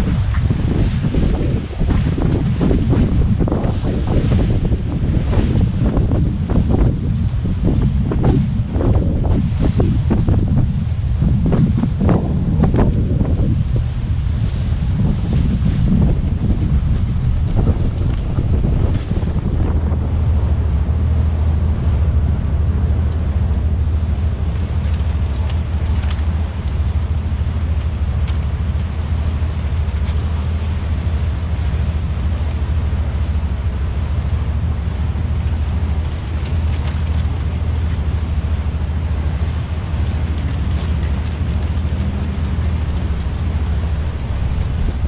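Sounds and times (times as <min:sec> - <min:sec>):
motorboat engine droning: 0:00.0 - 0:45.0
wind buffeting microphone: 0:00.0 - 0:45.0.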